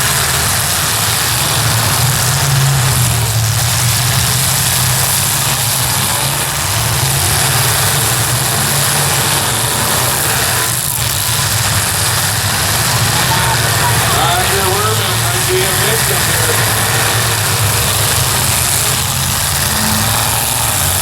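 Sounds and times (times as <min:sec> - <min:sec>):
car engines droning: 0:00.0 - 0:21.0.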